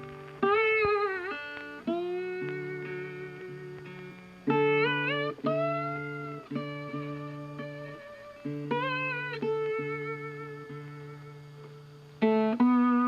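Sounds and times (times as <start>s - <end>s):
slide guitar notes: 0.0s - 13.0s.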